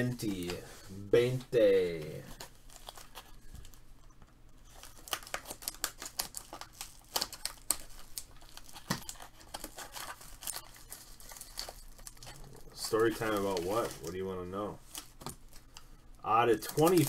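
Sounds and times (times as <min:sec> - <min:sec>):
foil wrapper crackling: 0:01.9 - 0:03.8, 0:04.6 - 0:17.0.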